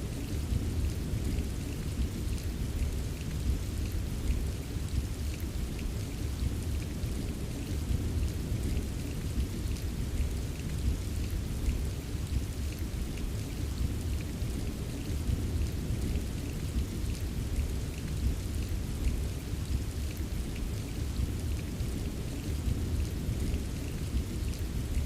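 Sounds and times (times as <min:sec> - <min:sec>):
steady rain tapping: 0:00.0 - 0:25.0.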